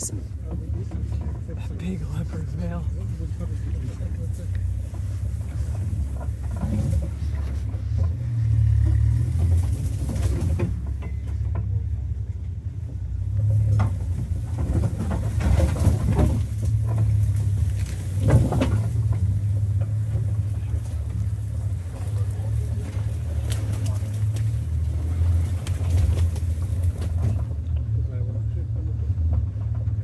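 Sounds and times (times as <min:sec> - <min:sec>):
vehicle engine and tyres rumbling: 0:00.0 - 0:30.0
vehicle knocks and rattles: 0:00.0 - 0:30.0.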